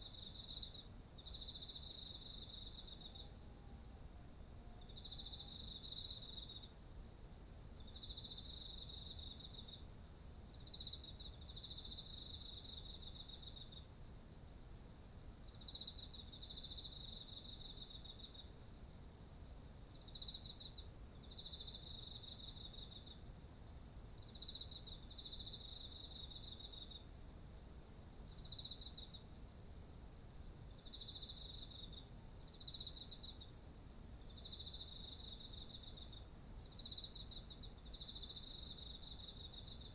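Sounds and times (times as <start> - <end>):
lower pulsed insect trills: 0.0 - 39.9.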